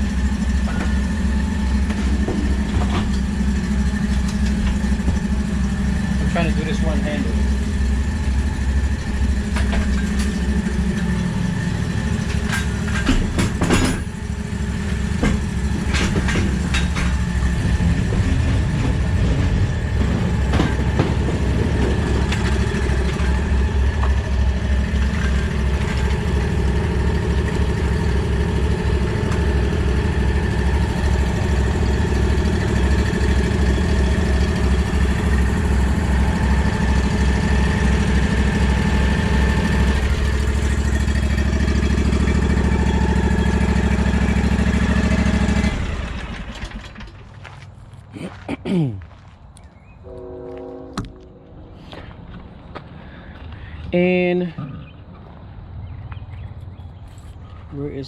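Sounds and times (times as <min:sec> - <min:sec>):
mower engine idling: 0:00.0 - 0:47.7.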